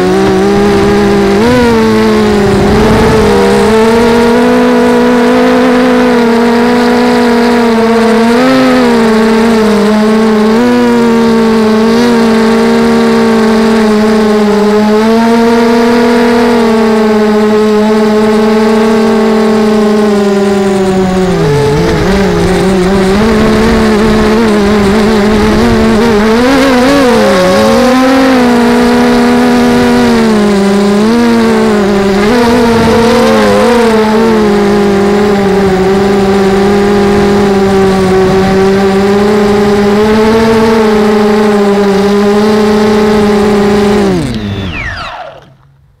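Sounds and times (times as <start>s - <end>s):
quadcopter motors whining: 0.0s - 46.0s.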